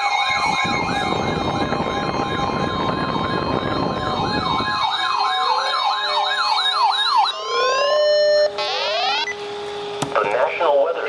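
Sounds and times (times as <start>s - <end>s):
electronic siren wailing: 0.0s - 9.9s.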